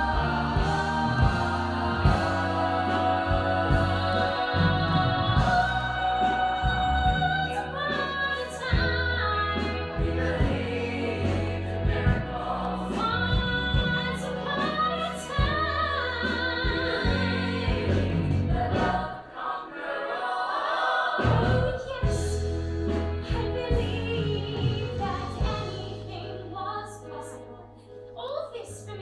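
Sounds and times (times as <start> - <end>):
musical accompaniment: 0.0 - 29.0.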